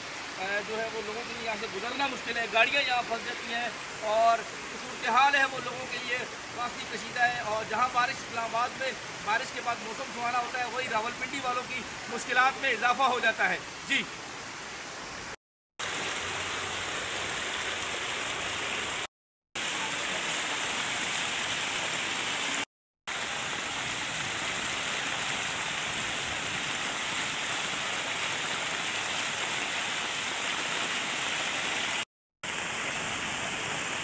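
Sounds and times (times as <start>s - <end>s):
floodwater rushing: 0.0s - 34.0s
heavy rain: 0.0s - 34.0s.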